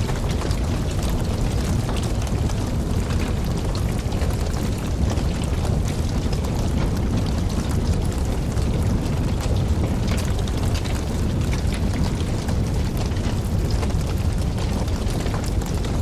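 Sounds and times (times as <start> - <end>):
campfire flames rushing: 0.0 - 16.0
fire crackling and popping: 0.0 - 16.0.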